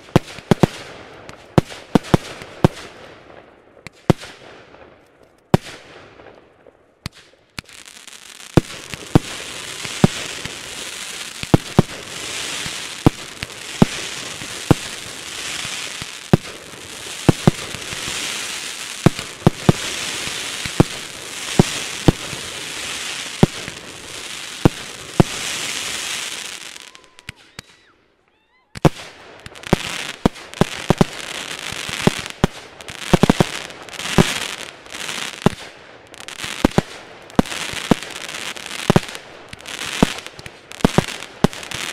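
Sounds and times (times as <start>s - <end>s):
fireworks bangs: 7.0s - 27.9s, 28.7s - 41.9s
fireworks hiss and crackle: 7.0s - 27.9s, 28.8s - 41.9s.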